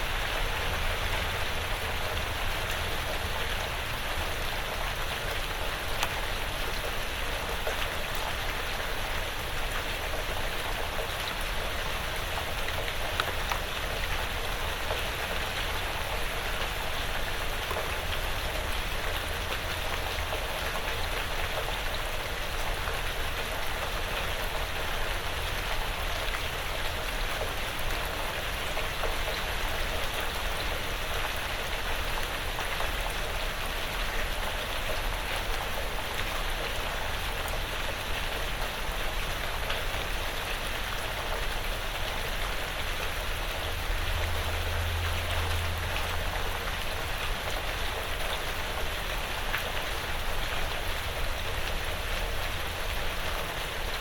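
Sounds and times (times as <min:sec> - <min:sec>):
individual raindrops: 0:00.0 - 0:54.0
rain on a roof: 0:00.0 - 0:54.0.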